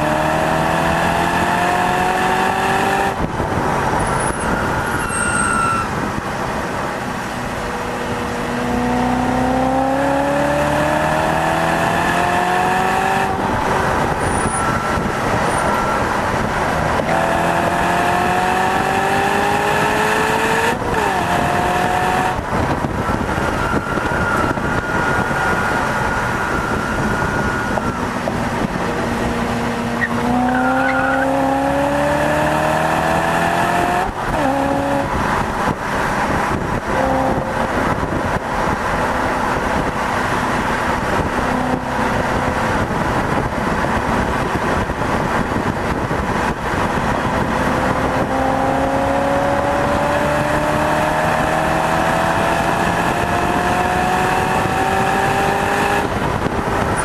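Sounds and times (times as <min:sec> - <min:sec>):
car engine accelerating hard: 0:00.0 - 0:57.0
wind and road noise: 0:00.0 - 0:57.0.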